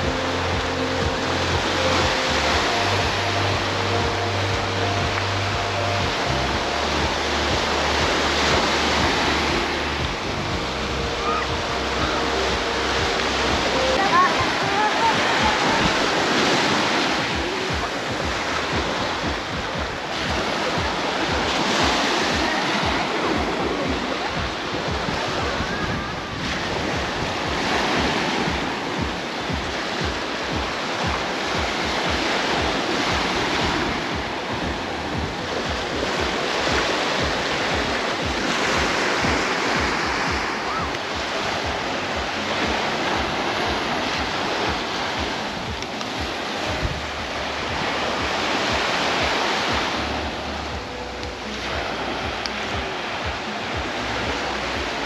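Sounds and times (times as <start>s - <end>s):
small waves breaking on shore: 0.0s - 55.0s
wind buffeting microphone: 0.0s - 55.0s.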